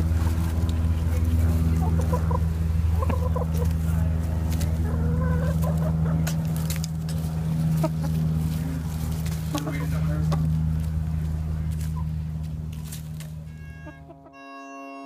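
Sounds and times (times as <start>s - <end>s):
hens clucking: 0.0s - 14.4s
steady low hum: 0.0s - 15.0s.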